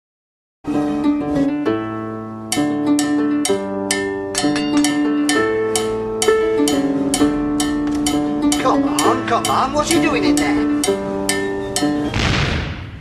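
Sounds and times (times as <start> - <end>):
harp-like plucked-string tune: 0.7 - 12.2.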